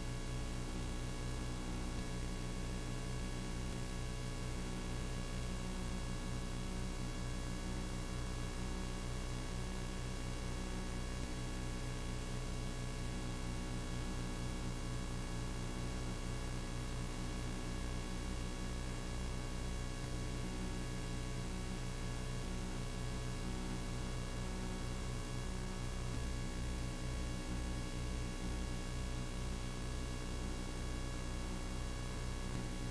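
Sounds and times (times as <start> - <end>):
electrical hum with hiss: 0.0 - 32.9.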